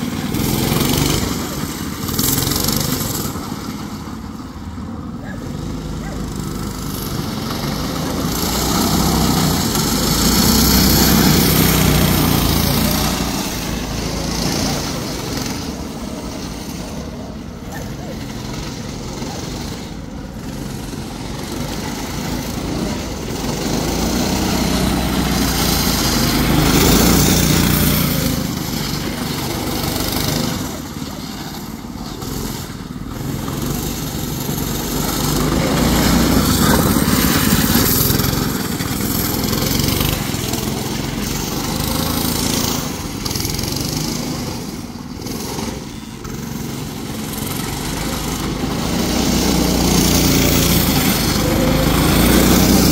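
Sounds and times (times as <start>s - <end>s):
small engine revving: 0.0s - 52.9s.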